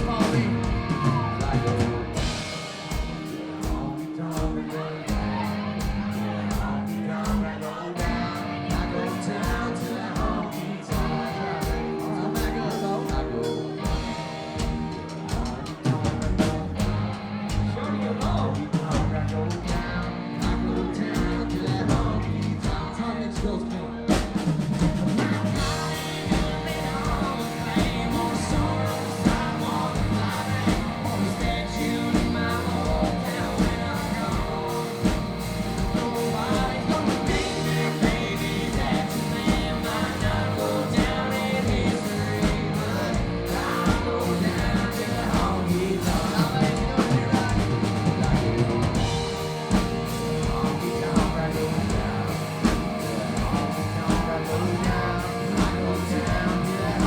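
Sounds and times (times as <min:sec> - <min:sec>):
live country band playing: 0:00.0 - 0:57.0
person singing: 0:00.0 - 0:57.0.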